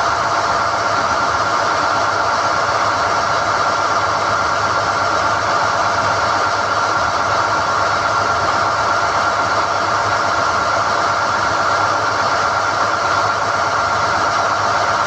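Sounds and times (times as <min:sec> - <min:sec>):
drilling rig machine drone: 0:00.0 - 0:15.0.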